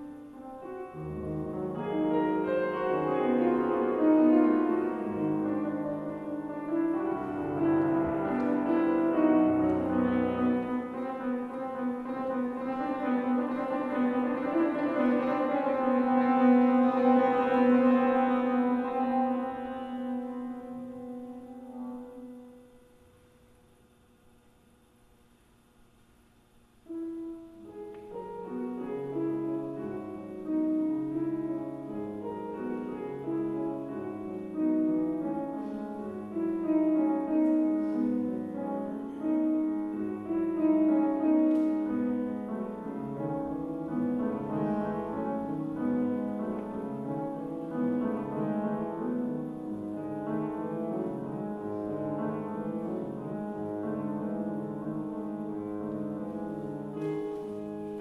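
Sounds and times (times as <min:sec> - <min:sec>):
grand piano classical piece: 0:00.0 - 0:58.0.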